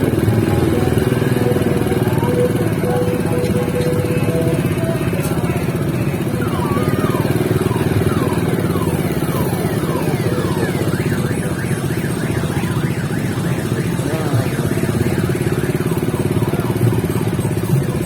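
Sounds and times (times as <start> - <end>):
motorcycle engines running: 0.0 - 18.0.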